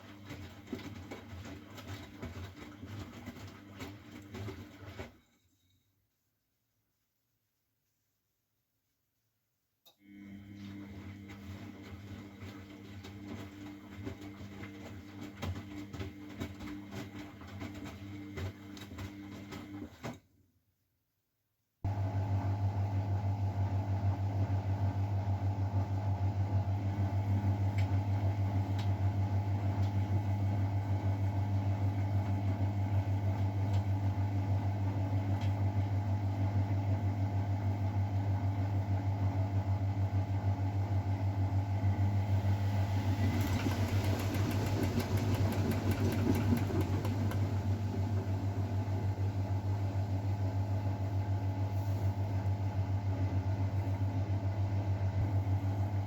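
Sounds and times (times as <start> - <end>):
washing machine humming: 0.0 - 5.2, 10.0 - 20.2, 21.9 - 56.0.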